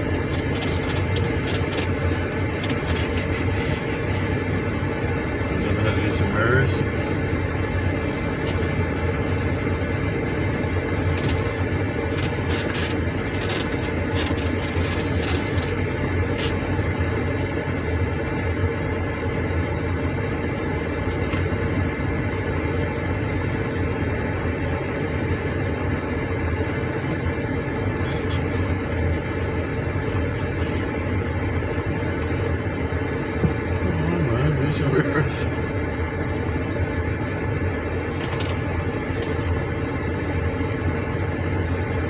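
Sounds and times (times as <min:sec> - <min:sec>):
car engine humming: 0:00.0 - 0:42.0.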